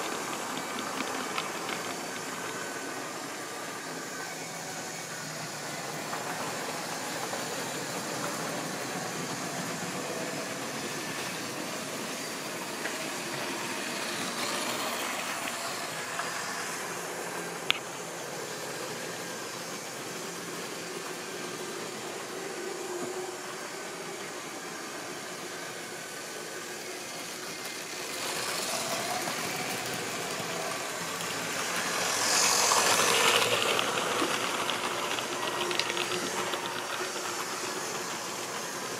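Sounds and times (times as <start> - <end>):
model train motors whirring: 0.0 - 38.9.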